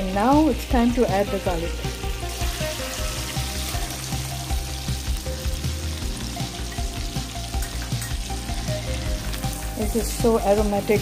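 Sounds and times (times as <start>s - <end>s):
garlic sizzling in butter: 0.0s - 11.0s.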